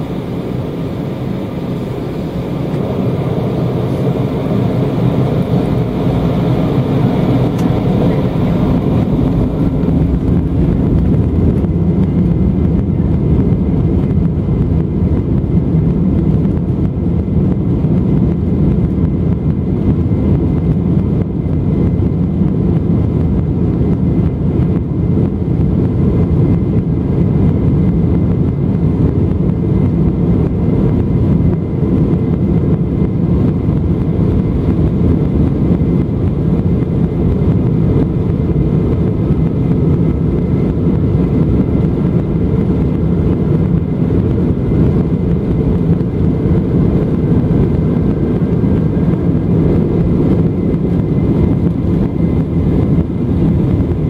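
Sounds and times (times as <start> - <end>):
airliner cabin engine roar: 0.0 - 54.0
faint engine whine: 0.0 - 54.0.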